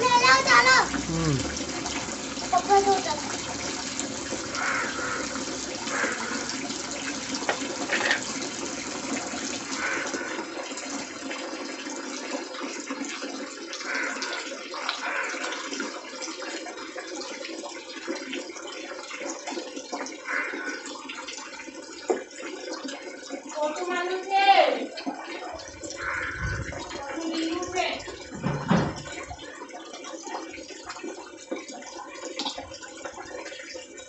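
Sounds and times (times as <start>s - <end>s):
water splashing in a basin: 0.0s - 34.0s.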